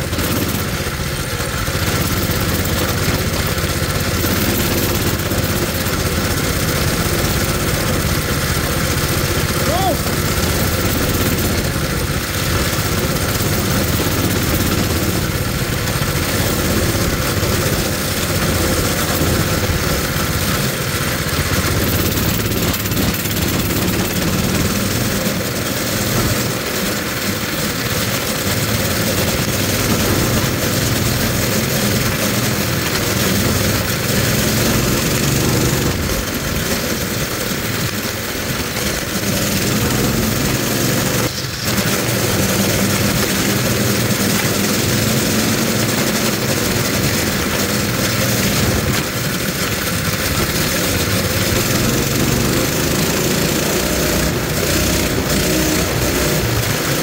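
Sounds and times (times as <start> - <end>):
small motorbike engine running: 0.0 - 57.0.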